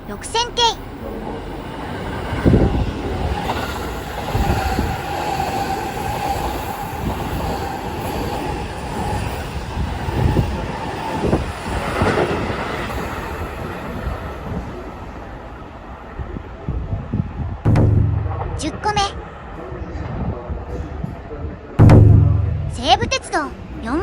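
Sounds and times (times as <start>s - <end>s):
train wheels knocking over rail joints: 0.0s - 14.8s, 17.4s - 24.0s.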